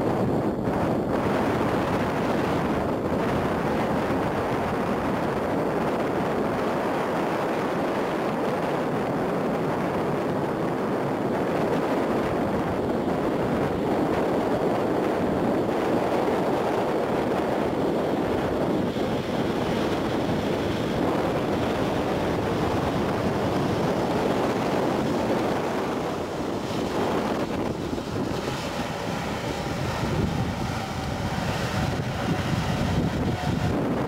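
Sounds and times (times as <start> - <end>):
jet engines rushing: 0.0 - 34.0.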